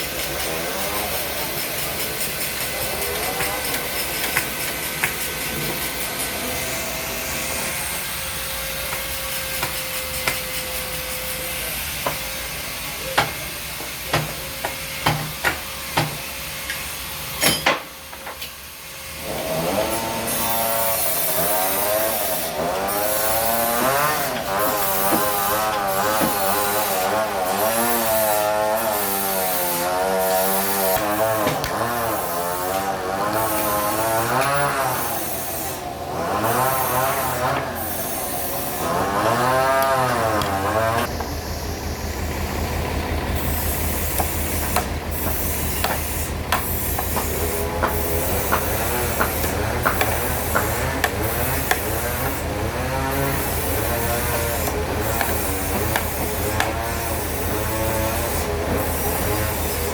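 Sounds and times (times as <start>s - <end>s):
saw blade whine: 0.0s - 59.9s
sawmill machine noise: 0.0s - 59.9s.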